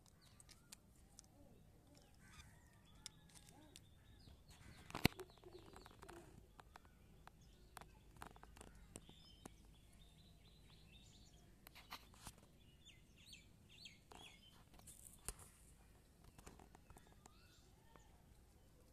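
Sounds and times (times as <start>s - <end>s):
faint bird chirps: 0.0s - 15.6s, 16.2s - 18.9s.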